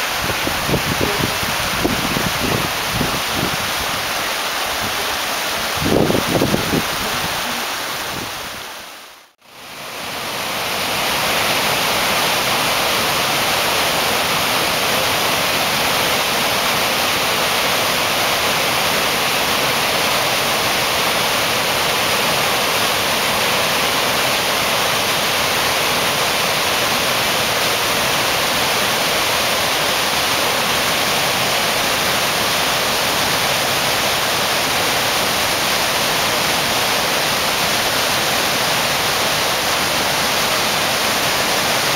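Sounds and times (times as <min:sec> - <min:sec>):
water rushing over rocks: 0:00.0 - 0:41.9.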